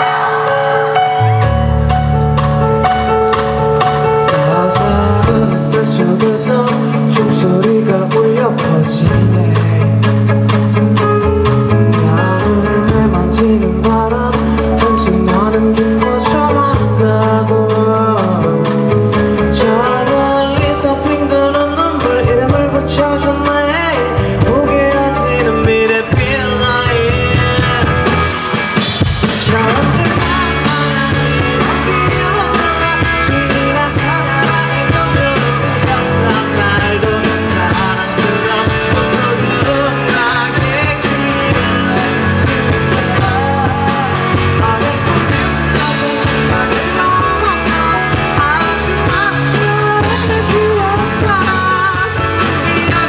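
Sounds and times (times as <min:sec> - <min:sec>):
live pop-rock band playing: 0:00.0 - 0:53.0
man singing lead vocal: 0:00.0 - 0:53.0.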